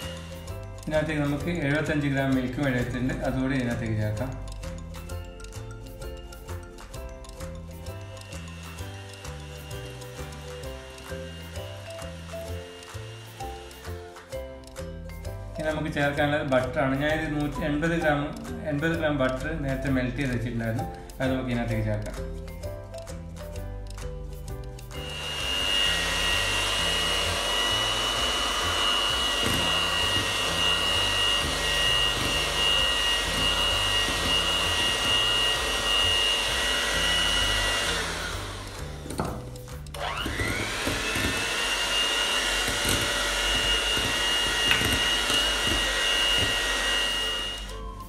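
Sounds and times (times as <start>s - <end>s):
electric hand mixer whining: 0.0s - 4.0s, 4.6s - 16.2s, 24.4s - 48.0s.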